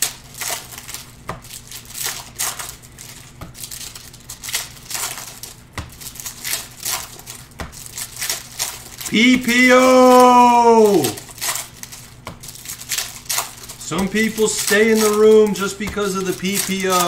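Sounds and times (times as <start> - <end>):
foil wrappers crinkling and tearing: 0.0 - 17.0.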